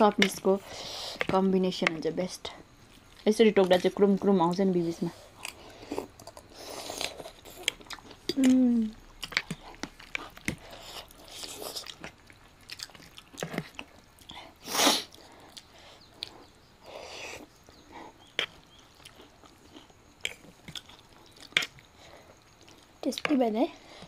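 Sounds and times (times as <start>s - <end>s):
chewing and crunching noodles: 2.8s - 24.0s.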